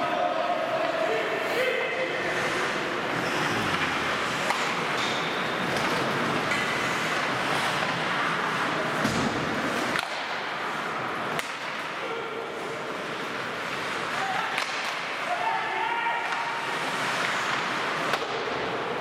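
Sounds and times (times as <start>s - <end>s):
hockey sticks and puck clacking: 0.0s - 19.0s
skates scraping ice: 0.0s - 19.0s.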